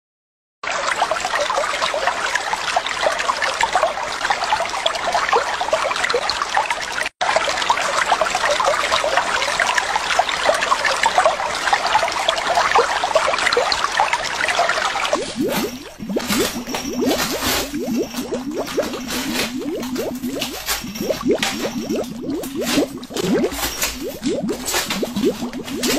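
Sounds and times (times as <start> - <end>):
trickling bubbling water: 0.6 - 25.9.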